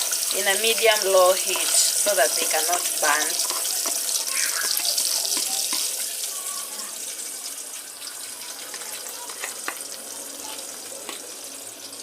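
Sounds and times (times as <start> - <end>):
eggs sizzling in oil: 0.0 - 12.0.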